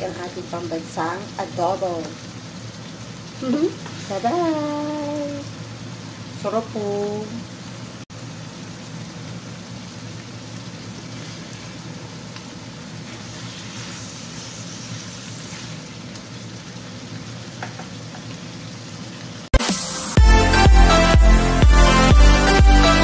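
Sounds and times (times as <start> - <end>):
food sizzling in a frying pan: 0.0 - 20.2.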